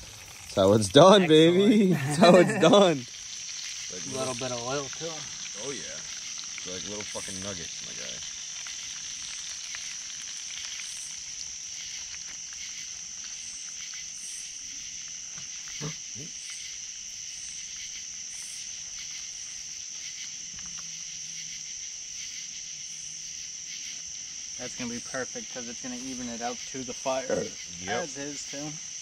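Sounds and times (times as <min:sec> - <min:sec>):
night insects chorus: 0:00.0 - 0:29.0.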